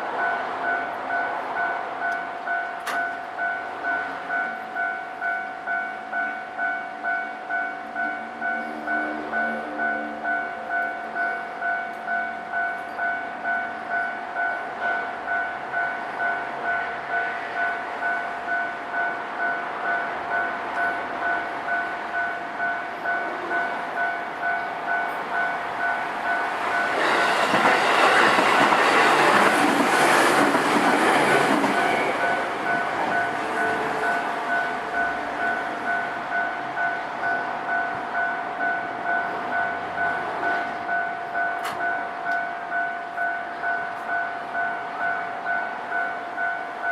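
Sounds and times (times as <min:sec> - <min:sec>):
train rumbling past: 0:00.0 - 0:46.9.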